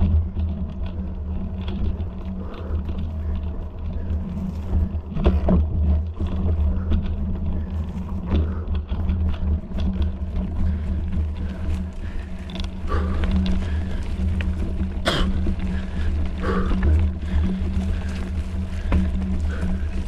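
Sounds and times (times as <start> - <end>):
constant low hum: 0.0 - 20.0
steady low rumble: 0.0 - 20.0.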